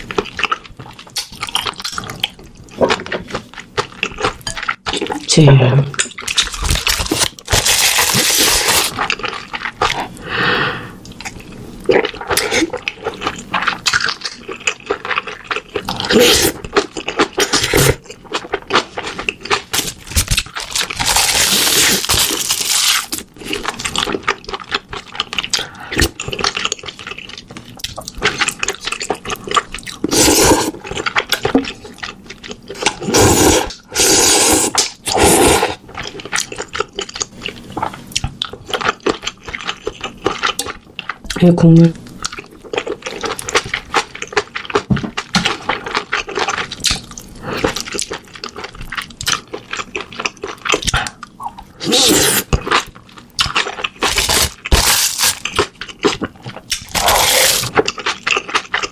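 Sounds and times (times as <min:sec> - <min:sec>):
chewing and slurping: 0:11.0 - 0:41.4, 0:42.0 - 0:58.9.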